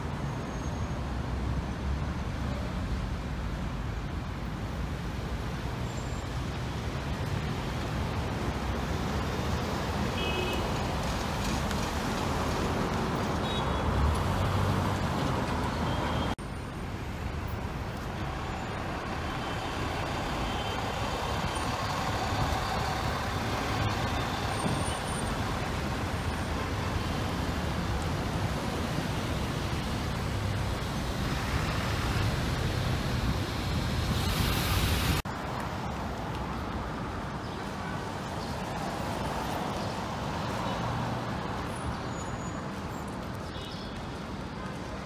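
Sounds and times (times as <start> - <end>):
city traffic rumble: 0.0 - 45.0.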